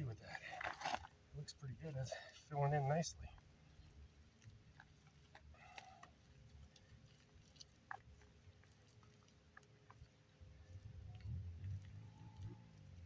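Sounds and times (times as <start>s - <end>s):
faint clicks and ticks: 0.1s - 13.0s.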